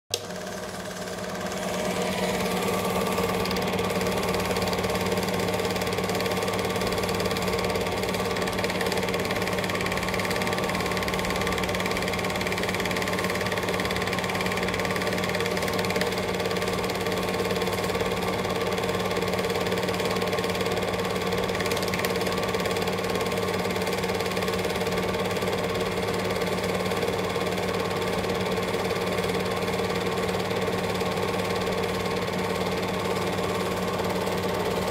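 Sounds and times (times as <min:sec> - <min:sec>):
film projector mechanical clatter: 0:00.1 - 0:34.9.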